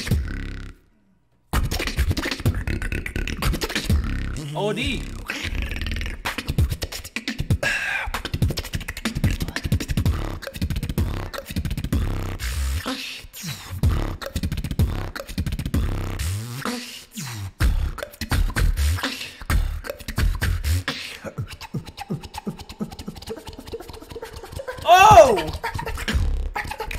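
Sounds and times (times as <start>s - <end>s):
beatboxing into a microphone: 0.0s - 0.9s, 1.5s - 26.9s.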